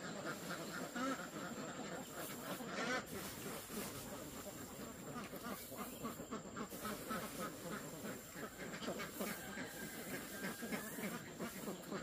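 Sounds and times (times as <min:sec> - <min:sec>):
distant poultry calling: 0:00.0 - 0:12.0
rice grains rustling and pattering: 0:00.0 - 0:12.0.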